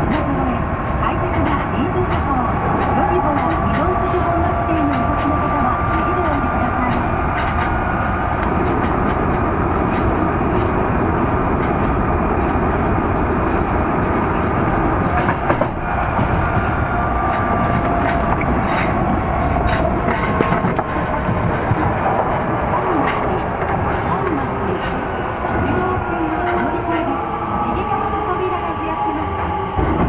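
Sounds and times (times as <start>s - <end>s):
subway wheels roaring on rail: 0.0s - 30.0s.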